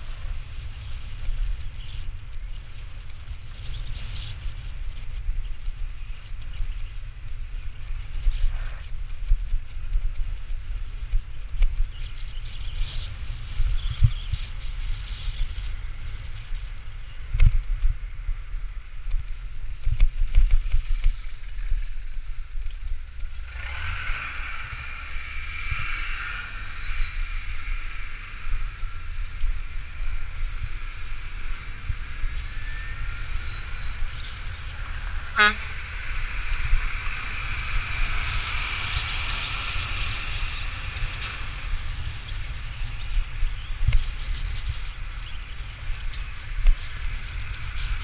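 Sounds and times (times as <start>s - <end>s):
road and traffic hiss: 0.0s - 48.0s
wind rumbling on microphone: 0.0s - 48.0s.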